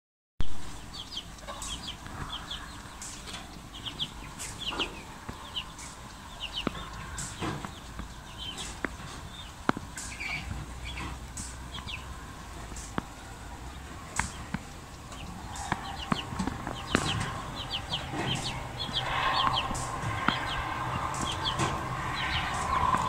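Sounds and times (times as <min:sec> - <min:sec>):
chicks peeping: 0:00.5 - 0:23.0
sharp ticks: 0:00.6 - 0:23.0
hen clucking: 0:00.7 - 0:23.0.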